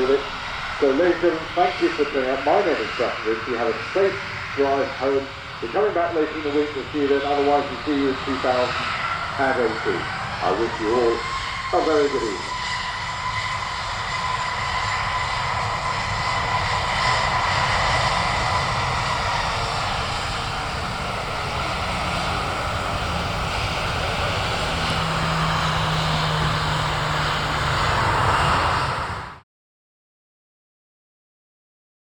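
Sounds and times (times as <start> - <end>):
high whine: 0.0 - 29.4
jet engines running: 0.0 - 29.4
low hum: 0.0 - 29.4.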